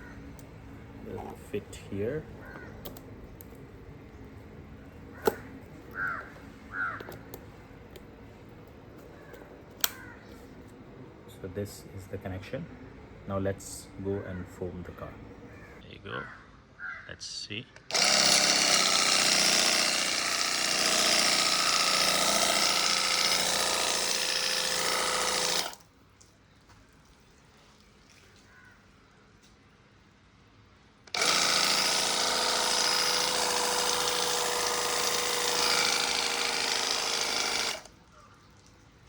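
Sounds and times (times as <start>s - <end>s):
pressure washer pump hum: 0.0s - 15.8s, 17.9s - 25.8s, 31.1s - 38.8s.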